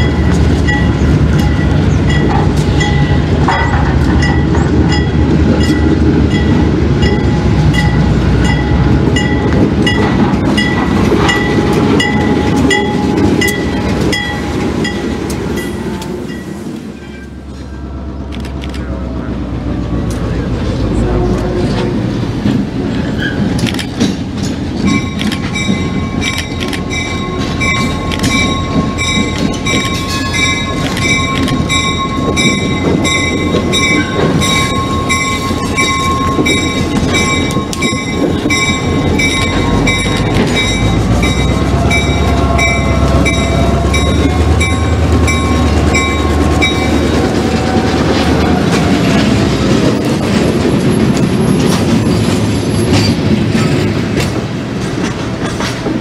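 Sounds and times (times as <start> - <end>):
crossing bell ringing: 0.0 - 17.8, 24.6 - 53.9
boxcars clattering over rails: 0.0 - 56.0
diesel locomotive passing: 0.0 - 56.0.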